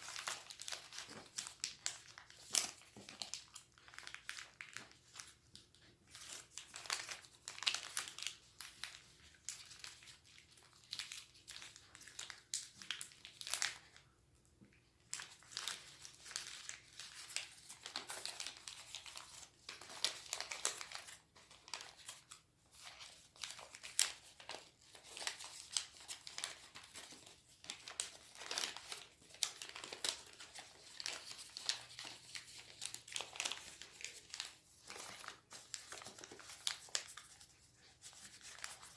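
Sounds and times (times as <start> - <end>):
paper rustling and crinkling: 0.0 - 14.0, 15.0 - 38.9.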